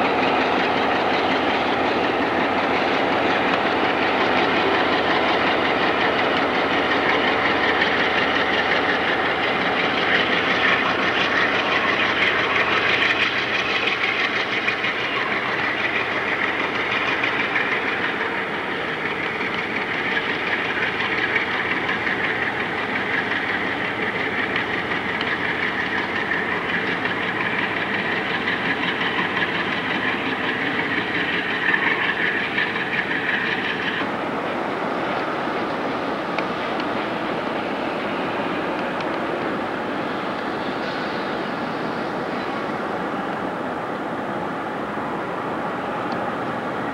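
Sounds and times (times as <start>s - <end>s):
diesel locomotive engine: 0.0s - 46.9s
train cars rolling: 0.0s - 46.9s.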